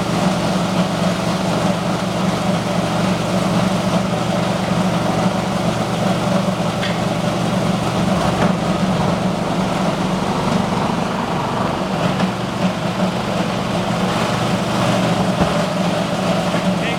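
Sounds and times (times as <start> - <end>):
grinder machine humming: 0.0 - 16.9.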